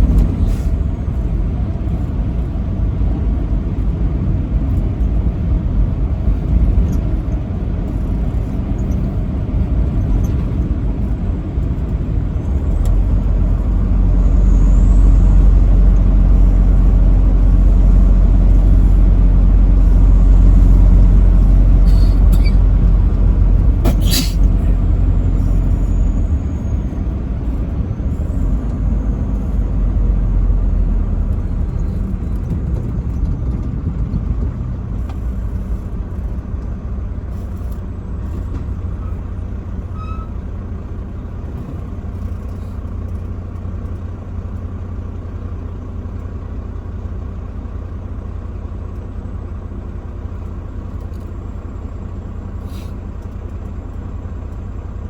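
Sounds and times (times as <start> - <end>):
road noise: 0.0 - 55.0
truck engine rumble: 0.0 - 55.0.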